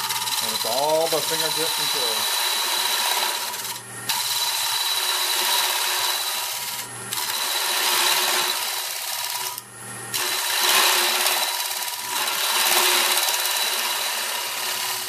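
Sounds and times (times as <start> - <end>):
cutter scraping wood: 0.0 - 9.6, 10.2 - 15.0
lathe humming: 0.0 - 15.0.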